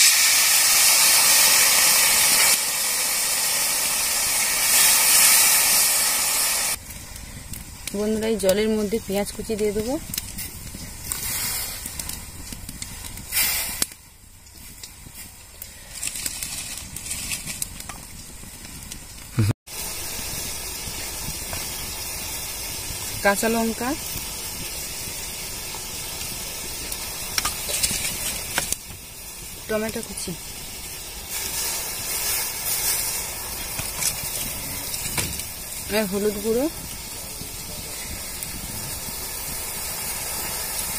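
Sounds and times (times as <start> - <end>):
water hissing on hot metal: 0.0 - 40.9.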